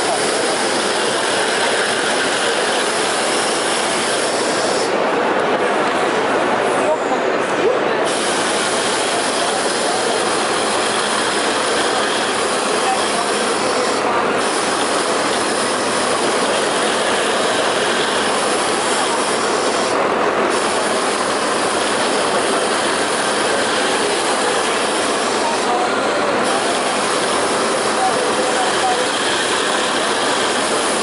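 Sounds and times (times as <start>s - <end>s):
industrial sewing machine running: 0.0s - 6.0s, 7.8s - 31.0s.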